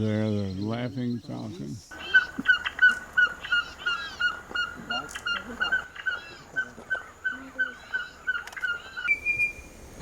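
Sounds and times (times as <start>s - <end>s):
bird calling nasal notes: 0.4s - 10.0s.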